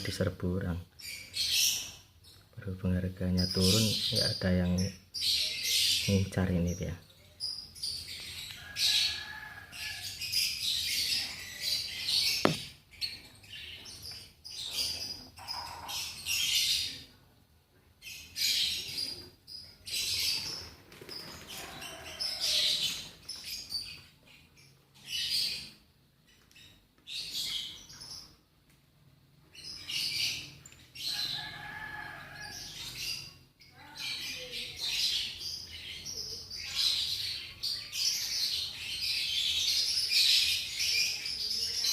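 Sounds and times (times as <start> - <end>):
lovebirds chirping: 0.0 - 28.7, 29.4 - 41.9.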